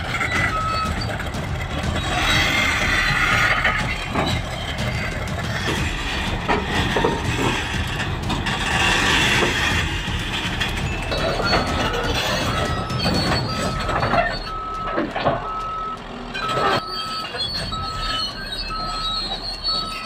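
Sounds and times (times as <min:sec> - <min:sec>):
diesel engine under load: 0:00.0 - 0:20.0
steel tracks clanking: 0:00.0 - 0:20.0.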